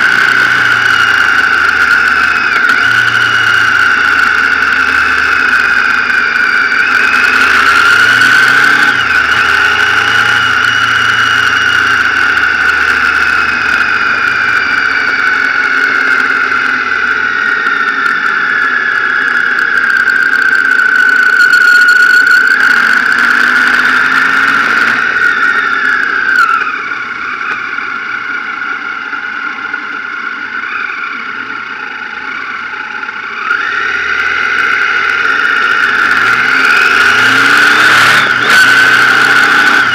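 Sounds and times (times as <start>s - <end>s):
motorcycle engine and drivetrain whine: 0.0s - 39.9s.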